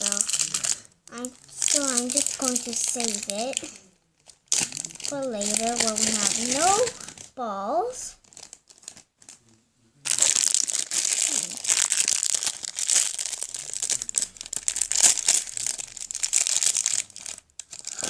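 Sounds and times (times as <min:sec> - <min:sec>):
plastic wrapping crinkling and tearing: 0:00.0 - 0:18.0.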